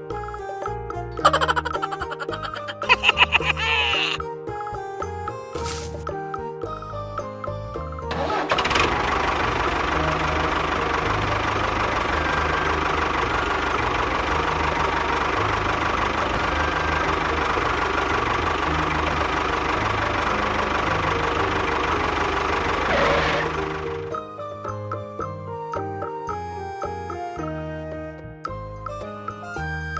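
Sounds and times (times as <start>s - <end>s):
background music: 0.0s - 29.9s.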